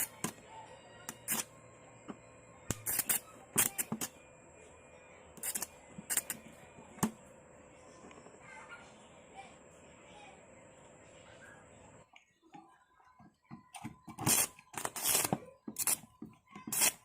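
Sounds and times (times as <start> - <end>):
faint steady hum: 0.0 - 16.4.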